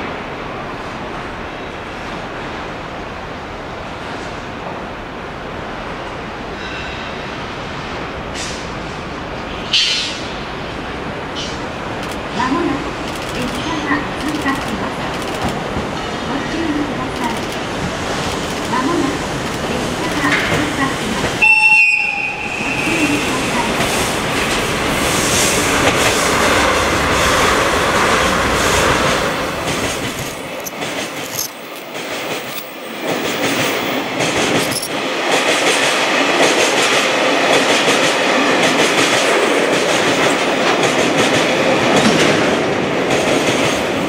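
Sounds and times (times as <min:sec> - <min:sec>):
diesel locomotive engines rumbling: 0:00.0 - 0:44.0.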